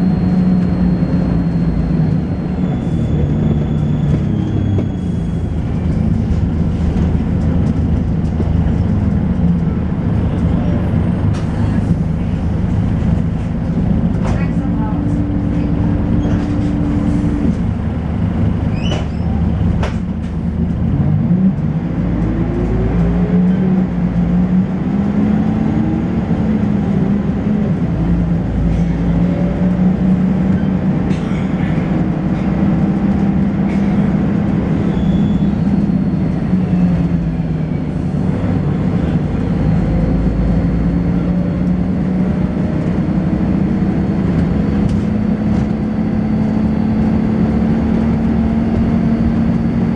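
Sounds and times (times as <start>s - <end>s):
bus diesel engine driving: 0.0s - 49.9s.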